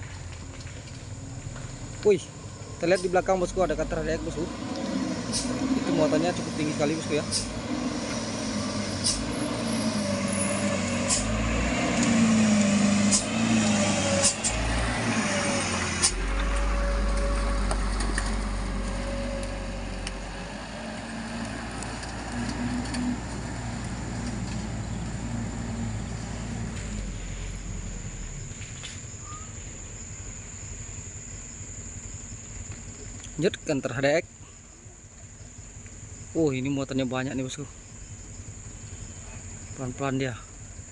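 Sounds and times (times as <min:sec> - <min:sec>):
truck engine working hard: 0:00.0 - 0:33.3.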